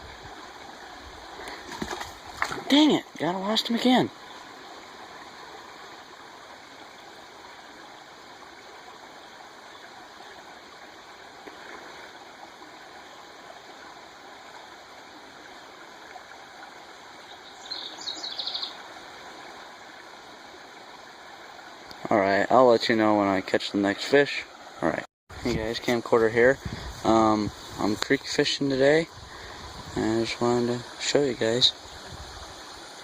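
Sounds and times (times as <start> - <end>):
creek water running: 0.0 - 33.0.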